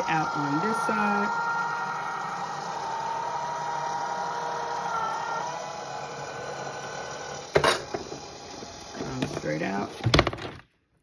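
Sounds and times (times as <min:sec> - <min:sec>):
fabric cutter rollers humming: 0:00.0 - 0:10.1.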